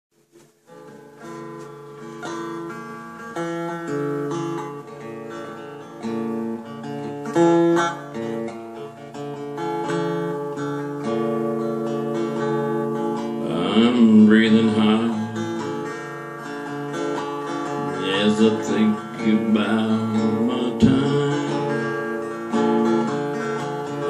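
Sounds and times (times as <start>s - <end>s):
acoustic guitar strumming: 0.6s - 24.0s.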